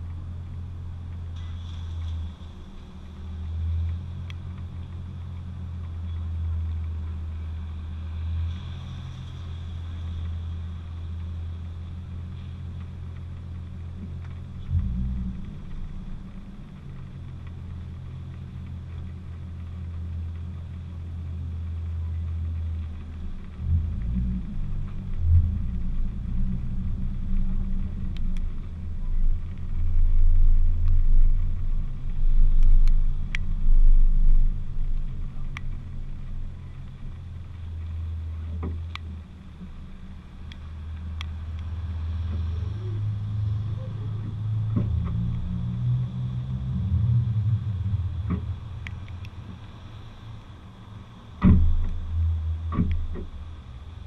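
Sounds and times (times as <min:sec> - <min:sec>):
car engine running at low revs: 0:00.0 - 0:54.0.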